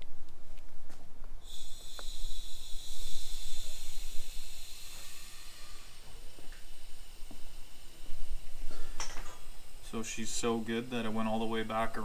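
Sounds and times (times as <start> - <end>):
compressed air hissing: 1.4 - 12.0.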